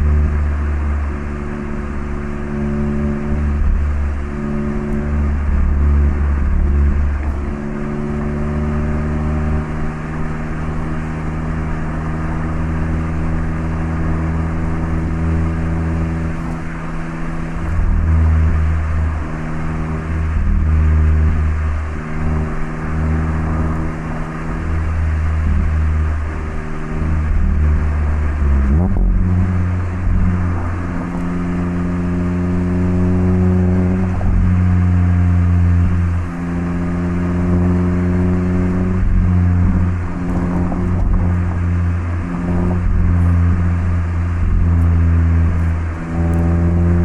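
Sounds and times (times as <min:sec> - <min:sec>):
car exhaust cruising note: 0:00.0 - 0:47.0.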